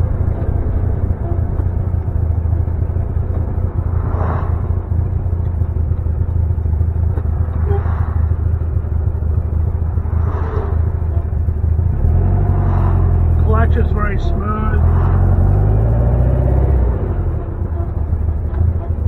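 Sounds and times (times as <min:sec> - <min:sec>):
car engine droning: 0:00.0 - 0:19.0
cars passing: 0:00.0 - 0:19.0
road noise inside cabin: 0:00.0 - 0:19.0.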